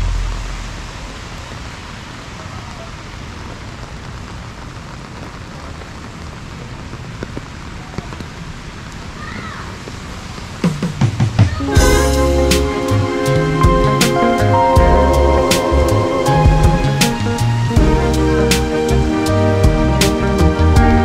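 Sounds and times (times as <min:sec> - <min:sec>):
rain on wet pavement: 0:00.0 - 0:21.0.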